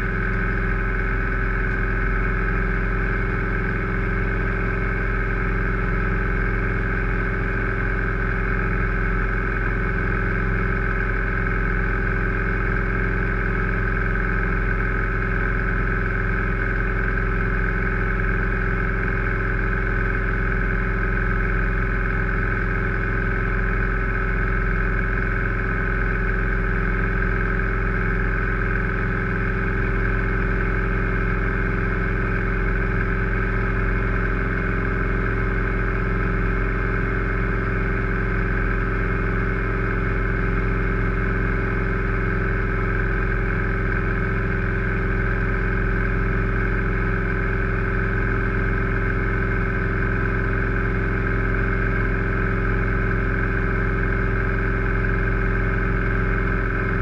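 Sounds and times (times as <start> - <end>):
aircraft engine and propeller running: 0.0 - 57.0.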